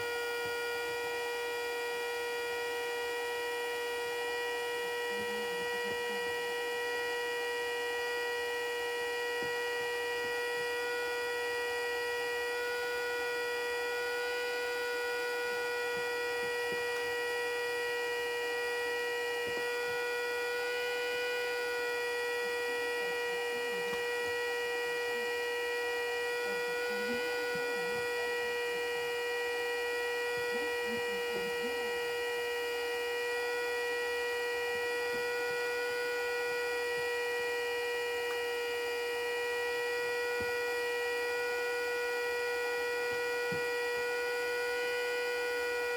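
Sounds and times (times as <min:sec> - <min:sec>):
siren steady tone: 0:00.0 - 0:45.9.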